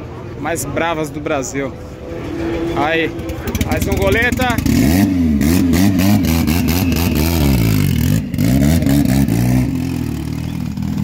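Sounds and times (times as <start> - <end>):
race car engine revving: 2.2 - 11.0.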